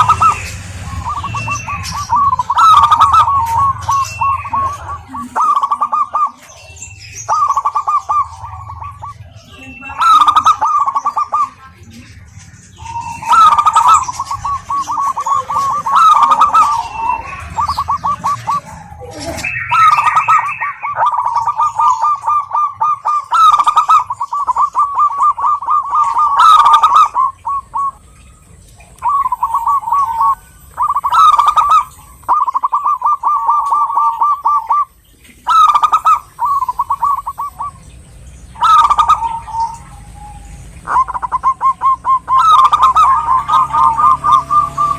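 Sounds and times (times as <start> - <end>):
doves cooing: 0.0 - 44.9.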